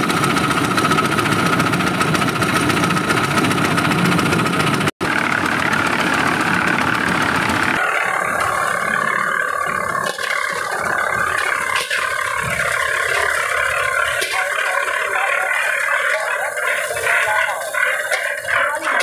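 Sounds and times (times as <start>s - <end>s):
small diesel engine running: 0.0s - 19.0s.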